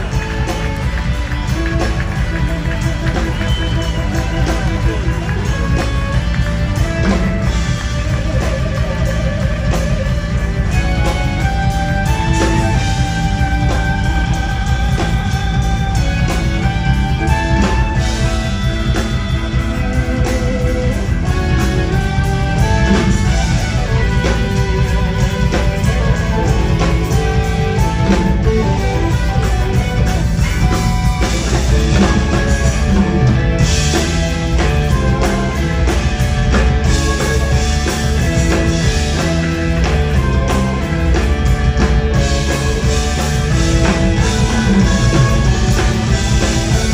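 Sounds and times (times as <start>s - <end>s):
live rock band playing: 0.0s - 46.9s
melodic electric guitar: 0.0s - 46.9s.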